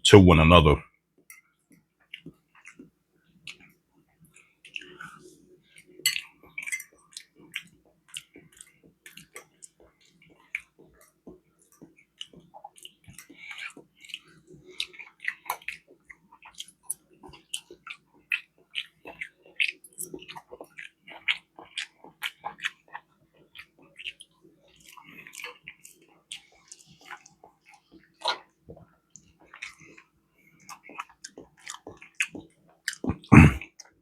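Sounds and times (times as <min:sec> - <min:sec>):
person chewing with wet smacks: 0:01.2 - 0:34.0.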